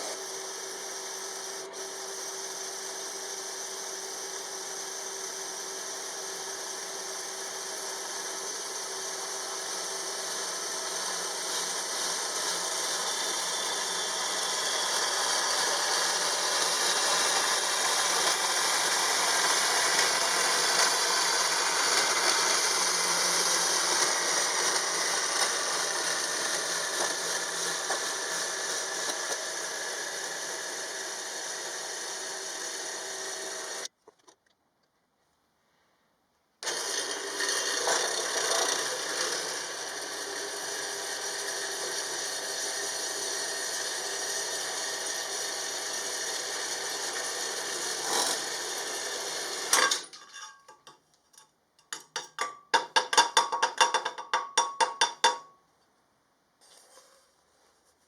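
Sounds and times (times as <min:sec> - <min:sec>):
power tool running: 0:00.0 - 0:33.9, 0:36.6 - 0:50.1.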